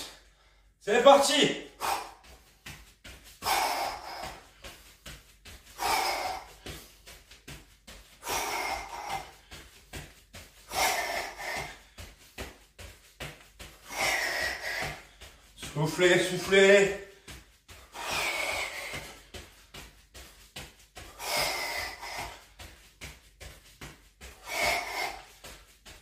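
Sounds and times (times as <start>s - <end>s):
man breathing hard: 0.0s - 0.8s, 1.6s - 26.0s
feet thumping while jumping: 1.8s - 26.0s.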